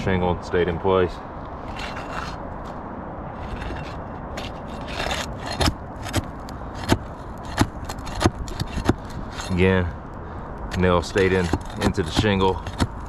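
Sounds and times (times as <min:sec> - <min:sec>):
flat bar scraping under shingles: 0:01.6 - 0:09.9, 0:10.7 - 0:13.0.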